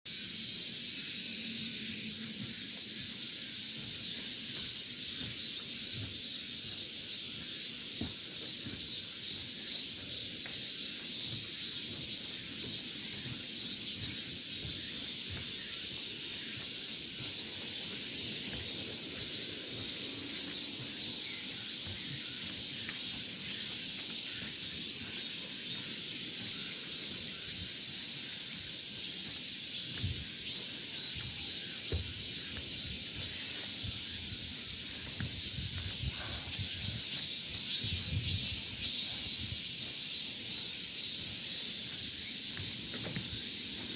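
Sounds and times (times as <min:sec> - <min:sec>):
high-pitched insect drone: 0:00.1 - 0:43.9.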